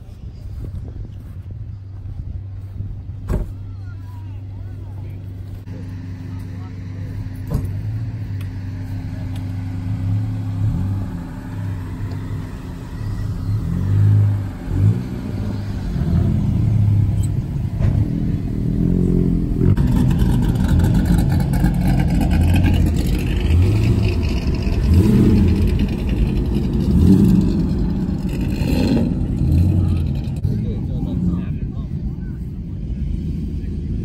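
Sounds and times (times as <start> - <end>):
car engine revving: 5.6 - 34.0.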